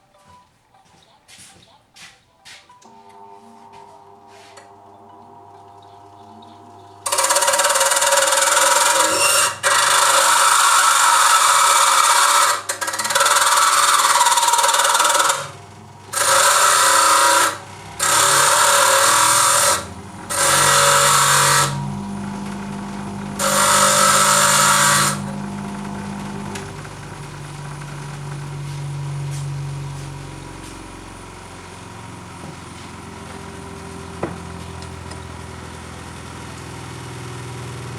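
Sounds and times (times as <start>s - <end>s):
power tool running in bursts: 2.9s - 37.9s.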